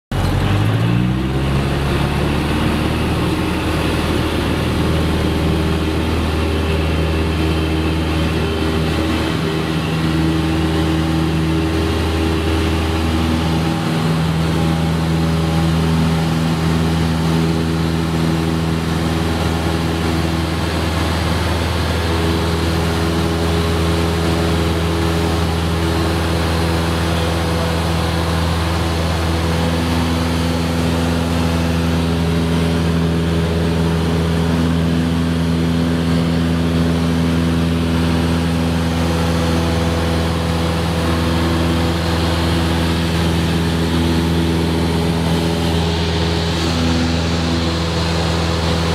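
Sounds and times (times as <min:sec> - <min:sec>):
propeller airplane engine drone: 0:00.1 - 0:48.9.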